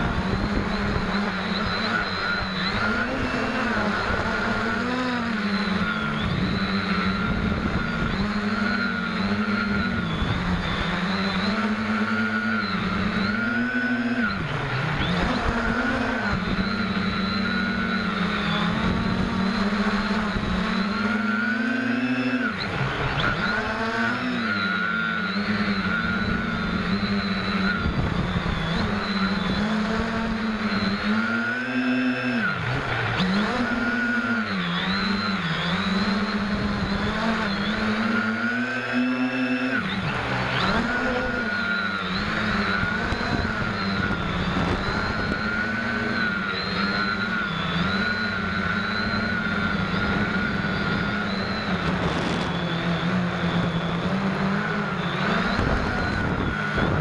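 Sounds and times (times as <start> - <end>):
quadcopter motors buzzing: 0.0 - 57.0.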